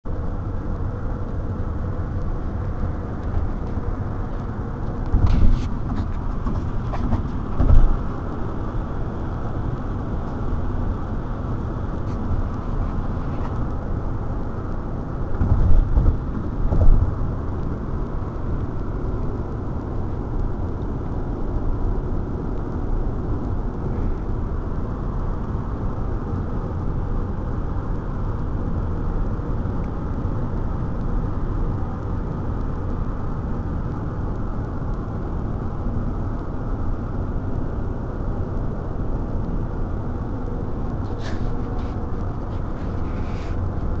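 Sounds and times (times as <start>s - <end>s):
car road noise of tyres and wind: 0.0s - 44.0s.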